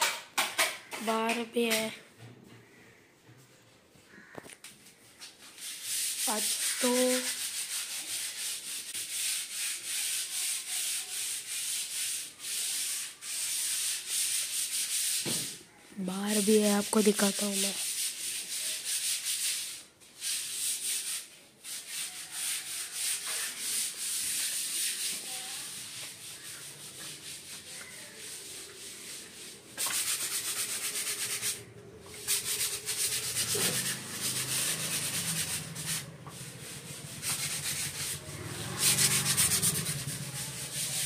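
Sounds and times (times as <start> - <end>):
sandpaper rubbing on plaster wall: 4.2 - 41.0.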